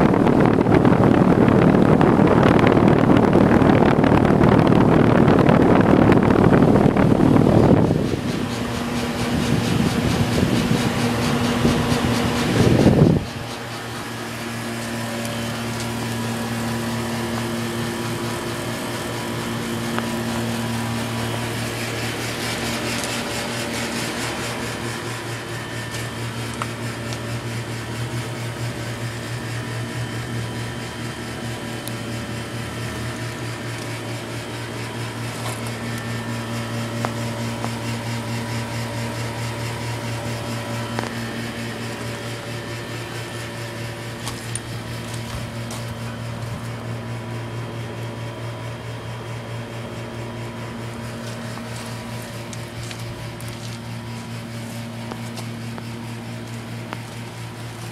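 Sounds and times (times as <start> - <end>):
condenser fan air rush: 0.0 - 57.9
steady low hum: 0.0 - 57.9.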